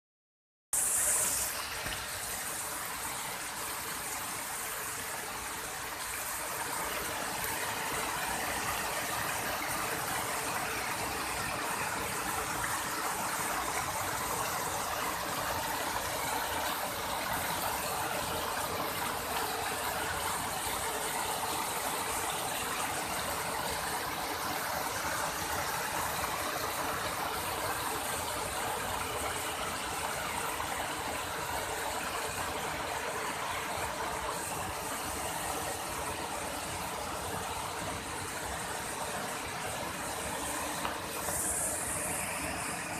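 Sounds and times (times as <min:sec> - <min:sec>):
waterfall cascading over rocks: 0:00.8 - 0:42.9.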